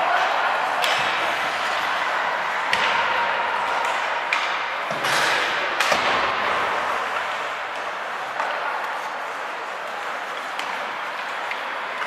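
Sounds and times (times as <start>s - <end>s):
arena noise: 0.0s - 12.0s
hockey sticks and puck clacking: 0.0s - 12.0s.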